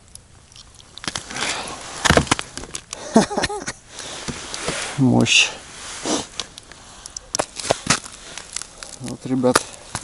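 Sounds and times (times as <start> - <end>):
clothing and gloves rustling: 0.8 - 3.4, 4.0 - 10.0.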